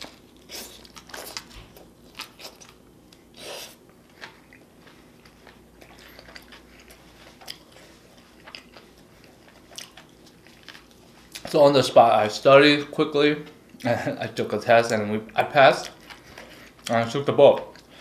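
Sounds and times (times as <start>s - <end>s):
chewing and crunching food: 0.0s - 11.7s, 14.9s - 18.0s.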